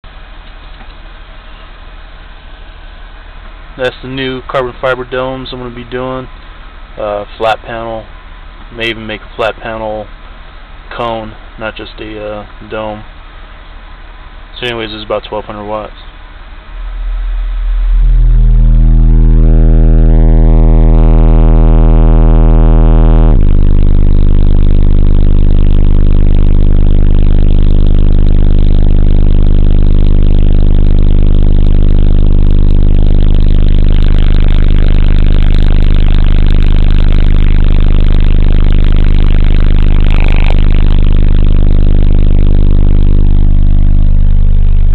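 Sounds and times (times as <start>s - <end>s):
loud deep subwoofer bass: 0.0s - 44.9s.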